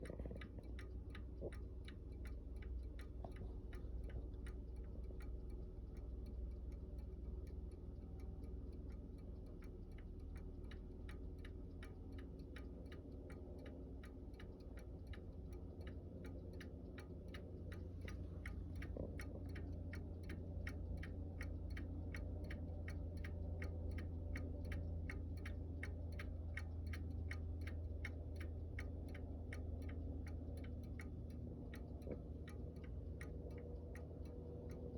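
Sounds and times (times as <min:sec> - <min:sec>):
clock ticking: 0:00.0 - 0:34.9
low steady hum: 0:00.0 - 0:34.9.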